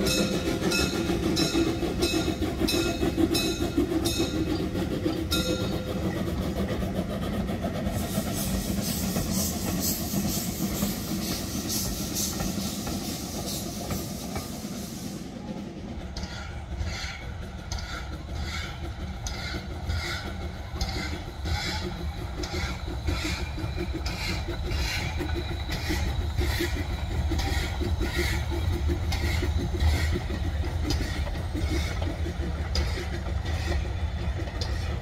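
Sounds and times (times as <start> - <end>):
steam locomotive exhaust chuffing: 0.0 - 35.0
train rumbling on rails: 0.0 - 35.0.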